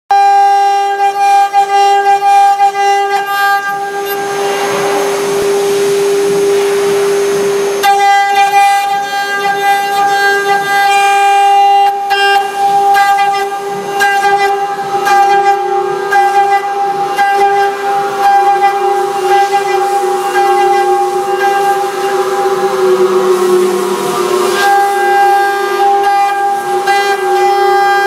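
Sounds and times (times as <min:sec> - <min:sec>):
cnc router spindle whine: 0:00.1 - 0:28.0
hissing noise: 0:03.2 - 0:10.1, 0:10.8 - 0:28.0.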